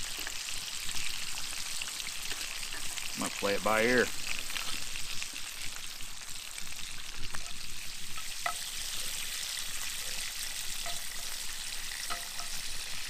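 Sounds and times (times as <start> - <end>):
bacon sizzling in skillet: 0.0 - 13.0.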